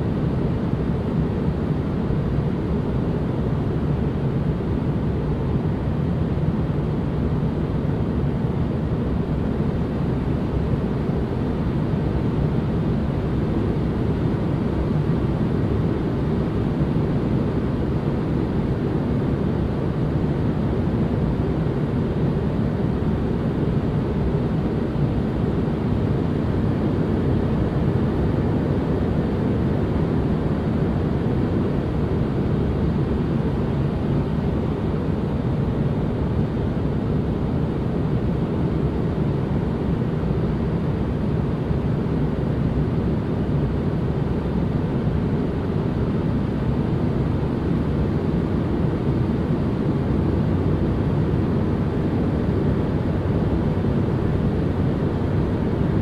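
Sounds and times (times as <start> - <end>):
deep white noise rush: 0.0 - 56.0.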